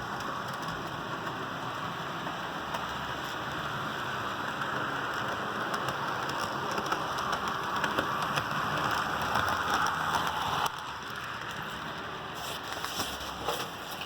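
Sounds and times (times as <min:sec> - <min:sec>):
model train whirring rattle: 0:00.0 - 0:14.0.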